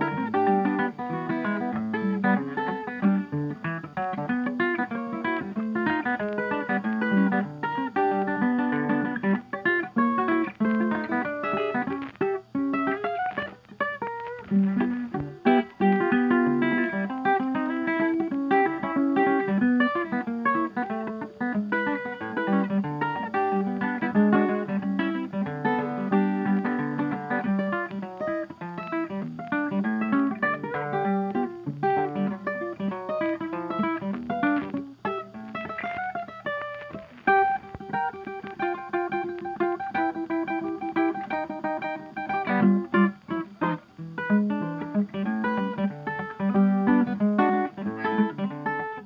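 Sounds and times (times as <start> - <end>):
plucked guitar music: 0.0 - 49.0.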